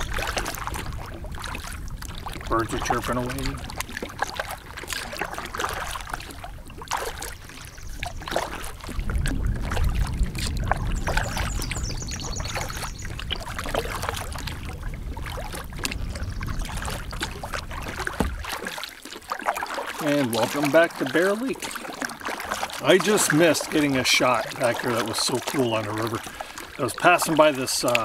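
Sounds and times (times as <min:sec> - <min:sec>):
paddle knocks: 0:00.0 - 0:28.0
paddle splashing water: 0:00.0 - 0:28.0.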